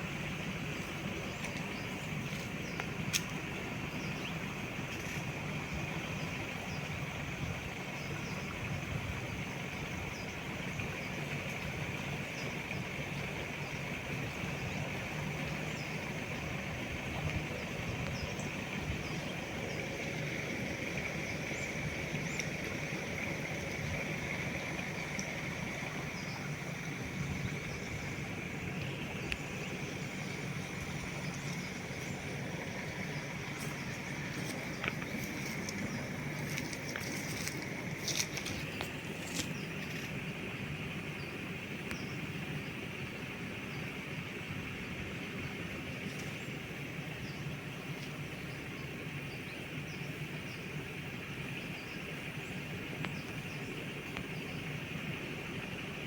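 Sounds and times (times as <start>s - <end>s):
continuous high buzz: 0.0s - 56.0s
engine droning: 0.0s - 56.0s
low motor hum: 0.0s - 56.0s.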